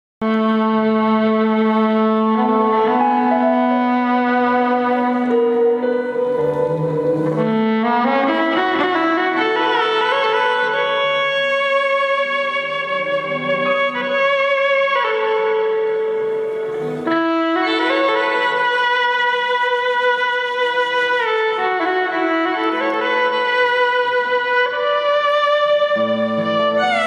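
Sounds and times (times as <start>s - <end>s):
instrumental melody of long notes: 0.2s - 27.0s.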